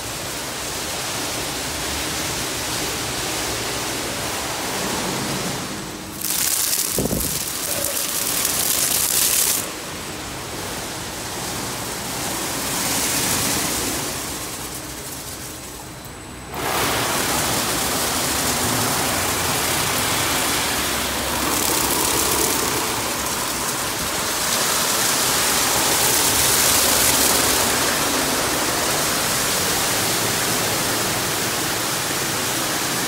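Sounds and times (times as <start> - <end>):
water spraying: 0.0 - 15.9, 16.5 - 33.0.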